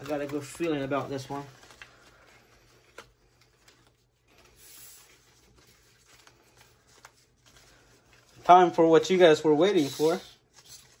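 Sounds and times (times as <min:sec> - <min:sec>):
trading cards rustling and ticking: 0:00.0 - 0:11.0.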